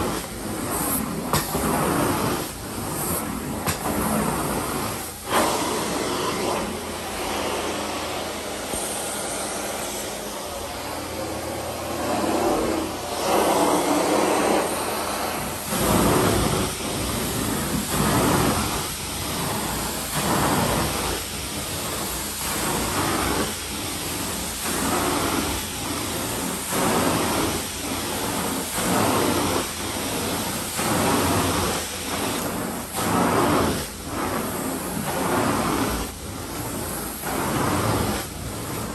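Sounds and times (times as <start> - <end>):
carpet cleaning machine running: 0.0 - 38.9.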